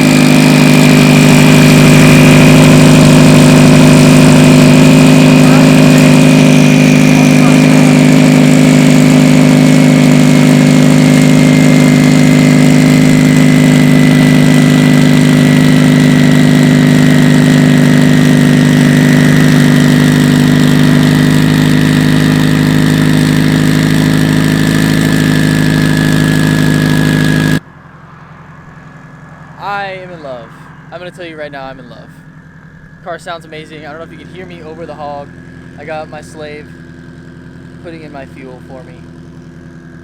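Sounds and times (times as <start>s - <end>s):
car engine idling loudly: 0.0s - 40.0s
thin high whine: 0.0s - 40.0s.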